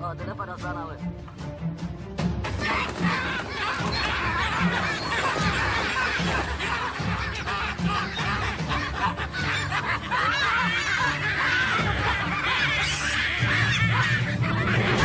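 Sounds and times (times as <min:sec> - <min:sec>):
background music low notes: 0:00.0 - 0:15.0
baboon screaming and chattering: 0:02.7 - 0:15.0.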